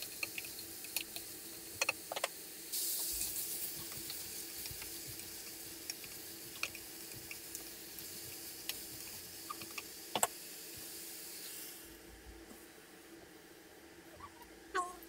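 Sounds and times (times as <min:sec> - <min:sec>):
food sizzling in a saucepan: 0:00.0 - 0:12.7.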